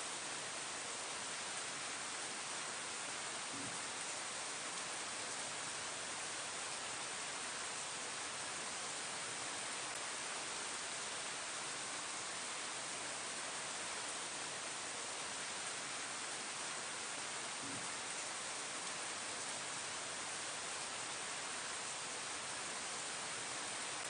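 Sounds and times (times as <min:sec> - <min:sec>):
rain falling on leaves: 0:00.0 - 0:24.0.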